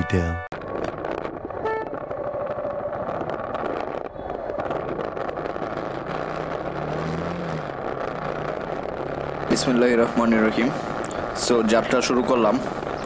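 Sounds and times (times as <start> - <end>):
low engine hum: 0.6 - 13.0
street traffic noise: 0.6 - 13.0.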